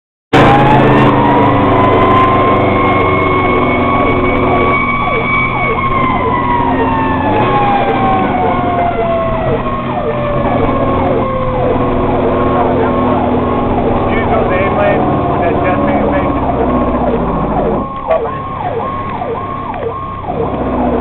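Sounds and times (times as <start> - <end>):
siren wailing: 0.4 - 21.0
siren yelping: 0.4 - 21.0
truck engine drone: 0.4 - 21.0.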